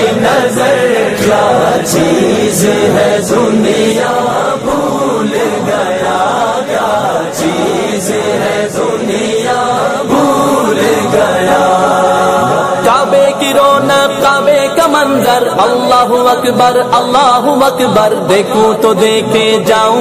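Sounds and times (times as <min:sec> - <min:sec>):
layered voices singing devotional song: 0:00.0 - 0:20.0.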